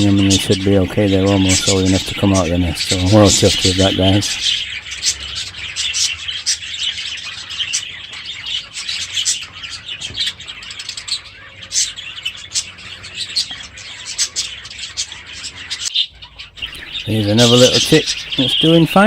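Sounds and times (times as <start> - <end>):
flock of budgerigars chattering: 0.0 - 19.0.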